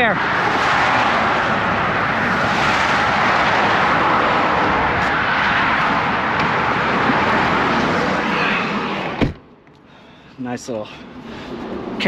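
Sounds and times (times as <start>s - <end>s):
highway traffic rushing past: 0.0s - 12.0s.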